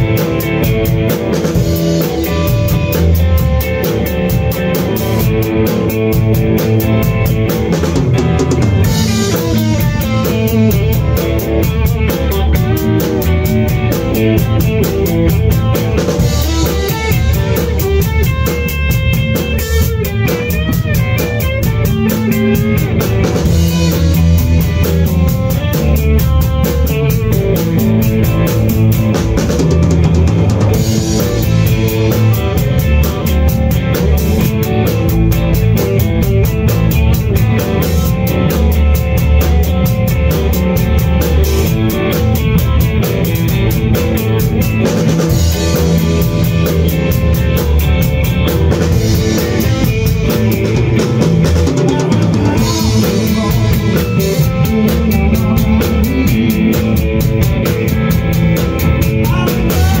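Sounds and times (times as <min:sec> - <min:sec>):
drum kit with cymbals: 0:00.0 - 1:00.0
electric bass: 0:00.0 - 1:00.0
electric guitar: 0:00.0 - 1:00.0.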